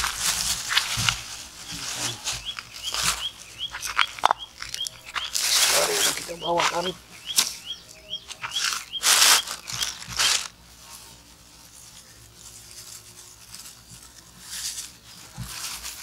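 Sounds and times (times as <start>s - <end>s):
plastic bag rustling: 0.0s - 16.0s.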